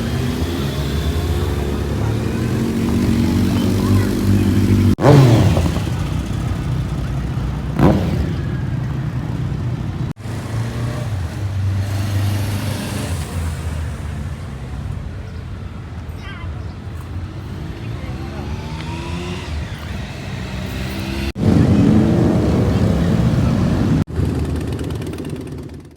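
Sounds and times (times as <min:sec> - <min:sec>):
motorcycle engines running: 0:00.0 - 0:16.1, 0:16.7 - 0:25.9.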